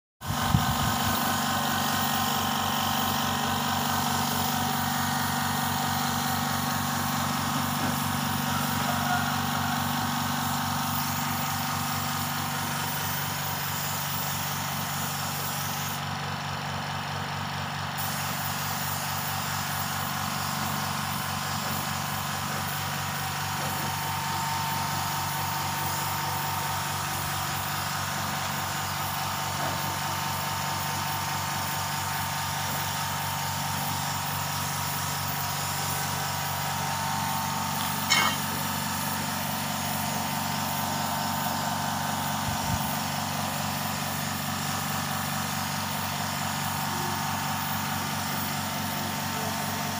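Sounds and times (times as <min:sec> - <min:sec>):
air compressor running: 0:00.2 - 0:49.9
spray gun hissing: 0:00.7 - 0:09.2, 0:10.4 - 0:16.0, 0:18.0 - 0:24.0, 0:24.7 - 0:49.9.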